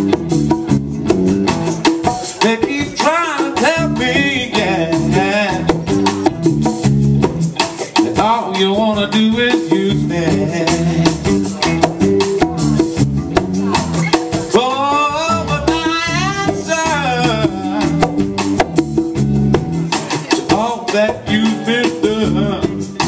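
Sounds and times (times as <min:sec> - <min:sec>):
live blues band playing: 0:00.0 - 0:23.0.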